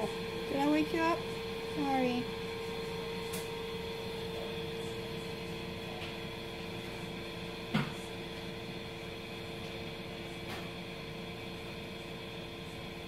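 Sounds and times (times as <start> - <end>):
indoor mechanical hum: 0.0 - 13.0.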